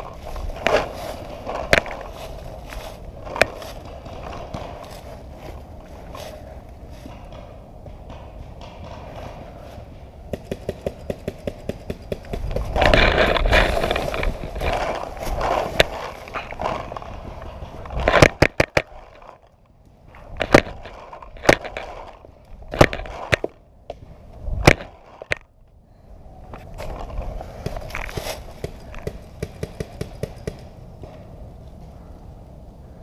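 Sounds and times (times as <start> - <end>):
sharp cracks and knocks: 0.0 - 5.6, 6.2 - 25.5, 26.5 - 31.3.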